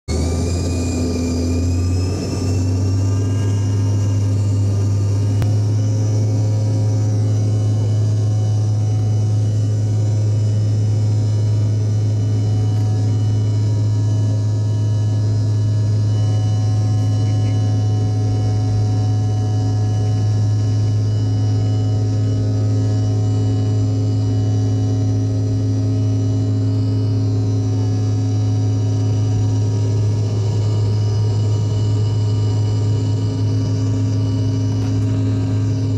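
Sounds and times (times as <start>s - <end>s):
jet engine whine: 0.1s - 35.9s
low engine hum: 0.1s - 35.9s.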